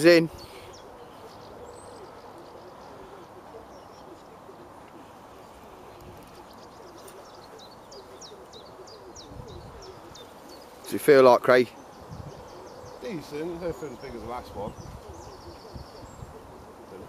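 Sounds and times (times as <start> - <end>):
steady outdoor noise: 0.0 - 17.0.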